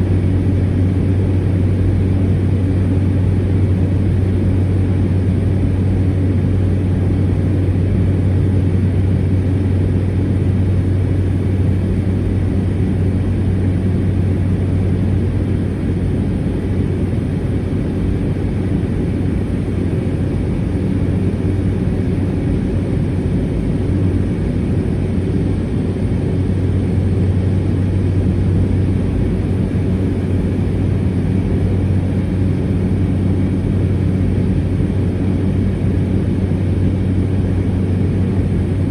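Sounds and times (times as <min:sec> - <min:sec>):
turboprop engine droning: 0:00.0 - 0:38.9.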